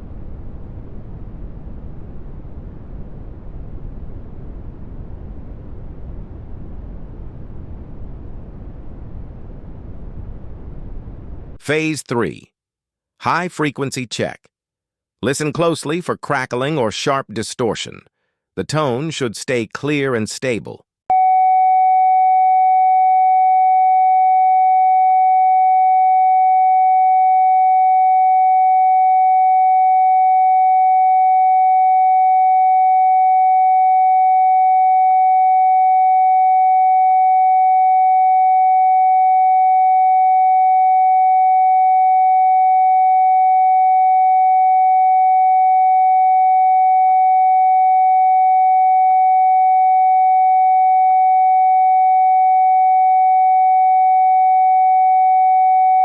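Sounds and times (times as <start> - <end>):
sine-wave test tone: 0.0 - 11.6, 21.1 - 56.0.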